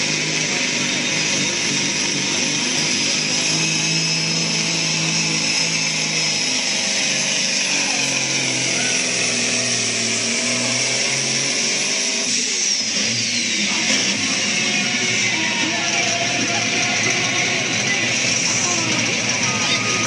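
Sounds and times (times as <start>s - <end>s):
diesel truck engine under heavy load: 0.0s - 20.0s.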